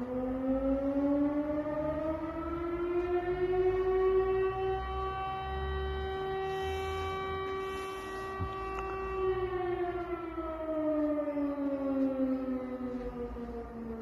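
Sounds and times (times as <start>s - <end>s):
air-raid siren wailing: 0.0s - 14.0s.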